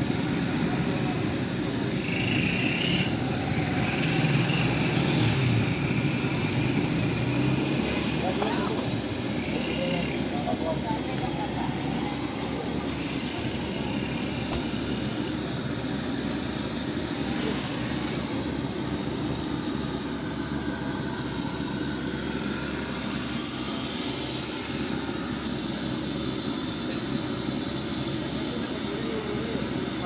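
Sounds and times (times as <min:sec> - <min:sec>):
low street rumble: 0:00.0 - 0:30.0.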